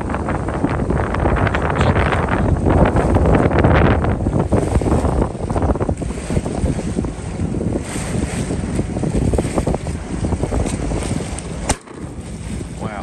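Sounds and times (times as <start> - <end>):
water splashing around boat: 0.0 - 13.0
wind buffeting microphone: 0.0 - 13.0.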